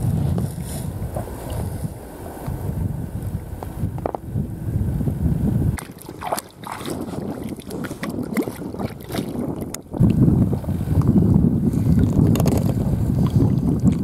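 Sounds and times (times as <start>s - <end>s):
wind buffeting microphone: 0.0s - 14.0s
water splashing against kayak: 0.2s - 4.4s, 5.4s - 14.0s.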